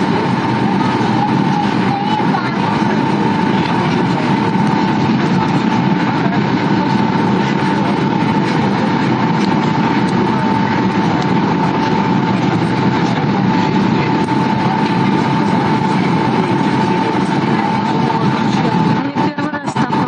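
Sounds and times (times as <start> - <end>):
jet engines and airflow rushing: 0.0 - 20.0
steady whine: 0.0 - 20.0.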